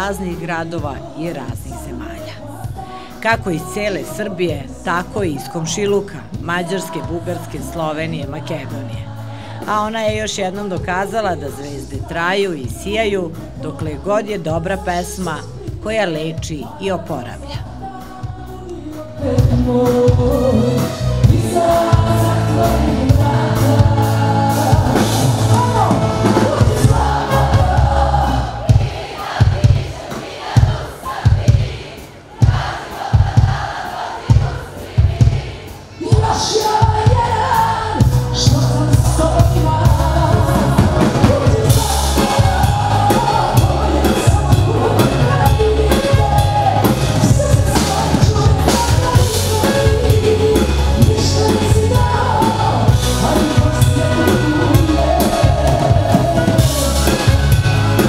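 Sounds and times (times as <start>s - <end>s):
person singing: 0.0s - 29.7s, 34.2s - 58.0s
live band playing: 0.0s - 58.0s.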